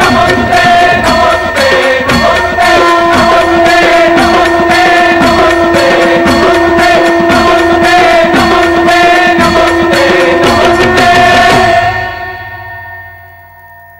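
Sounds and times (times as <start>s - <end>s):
fast drum beat: 0.0s - 12.3s
held drone: 0.0s - 13.5s.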